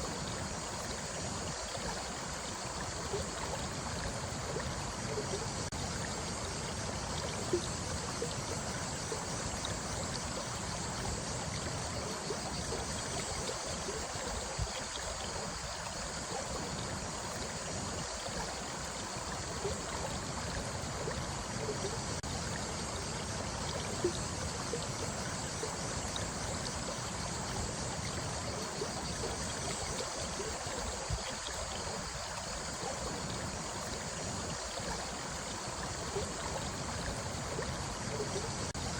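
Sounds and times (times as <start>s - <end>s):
running water rushing: 0.0s - 38.9s
water plops and gurgles: 0.0s - 38.9s.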